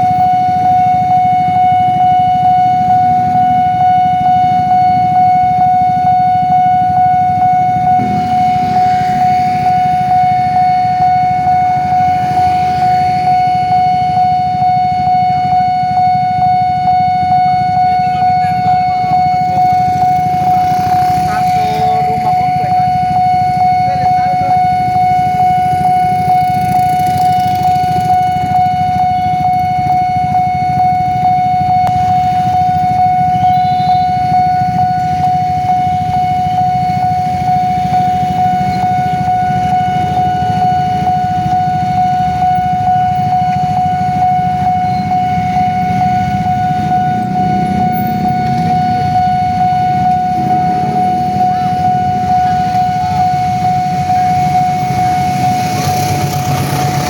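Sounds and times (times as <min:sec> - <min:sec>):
level crossing warning siren: 0:00.0 - 0:57.0.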